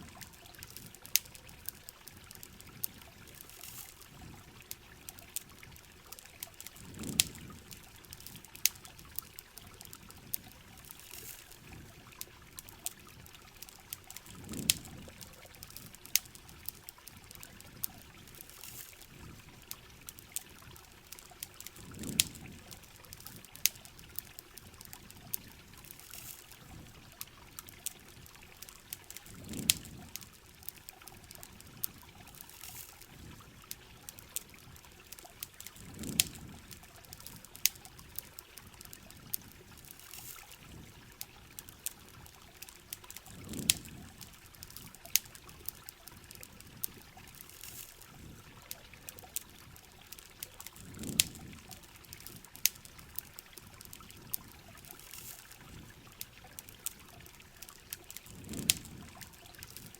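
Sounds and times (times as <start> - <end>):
campfire crackling: 0.0 - 59.9
rain pattering water: 0.0 - 59.9.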